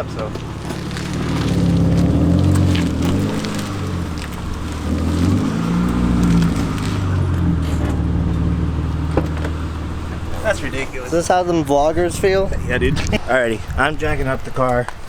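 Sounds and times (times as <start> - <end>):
car engine at low revs: 0.0 - 14.2.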